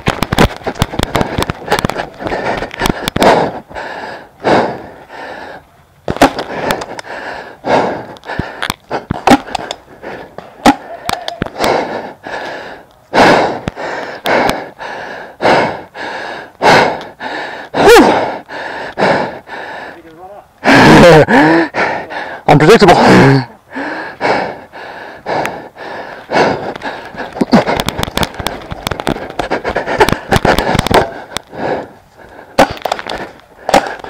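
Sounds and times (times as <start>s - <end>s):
heavy rapid breathing: 0.1s - 34.0s.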